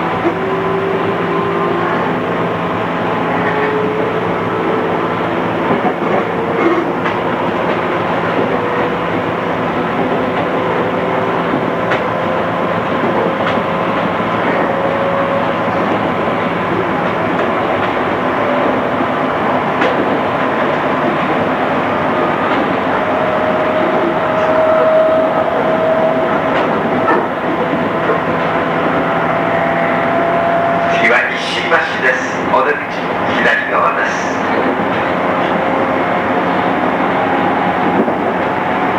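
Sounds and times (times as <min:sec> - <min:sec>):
train rolling rumble: 0:00.0 - 0:38.9
train motor whine: 0:07.0 - 0:38.9.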